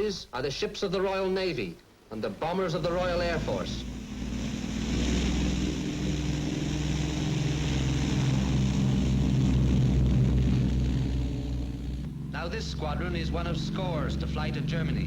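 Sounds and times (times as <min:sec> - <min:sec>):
propeller aircraft droning: 0:02.3 - 0:15.0.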